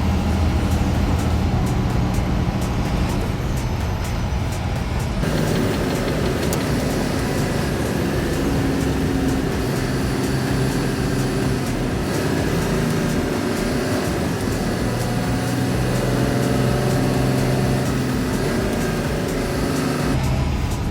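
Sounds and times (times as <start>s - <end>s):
road noise: 0.0s - 20.9s
truck engine running: 0.0s - 20.9s.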